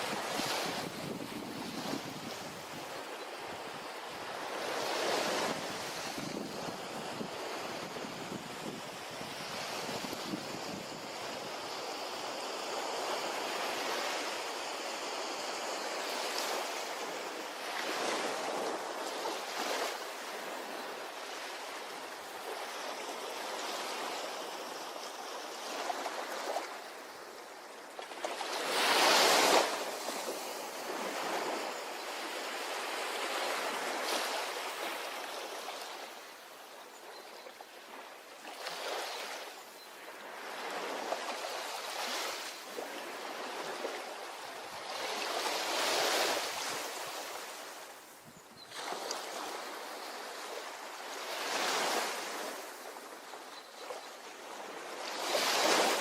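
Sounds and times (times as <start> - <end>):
small waves washing onto beach: 0.0 - 56.0.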